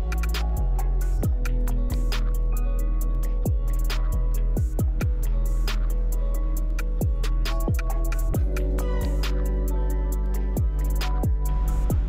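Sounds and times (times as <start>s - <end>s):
background music with steady beat: 0.0s - 12.0s
sliding deep bass notes: 0.0s - 12.0s.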